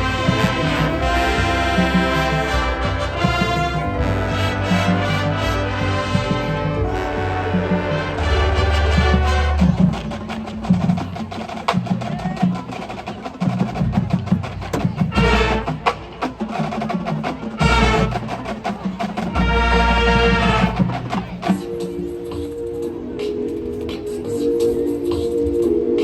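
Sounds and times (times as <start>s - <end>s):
drums and wood block: 0.0s - 25.7s
marching band chords: 0.0s - 26.0s.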